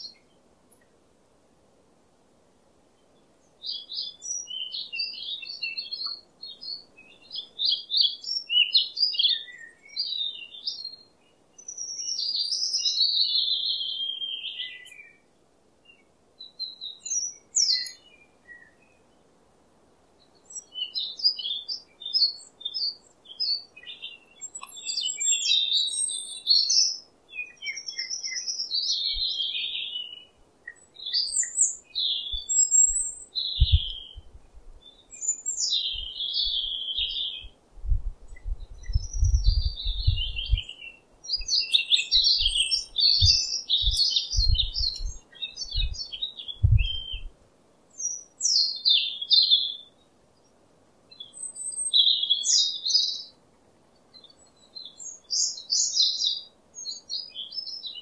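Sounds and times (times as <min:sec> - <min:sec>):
songbirds singing: 0:00.0 - 0:01.0, 0:02.8 - 0:58.0.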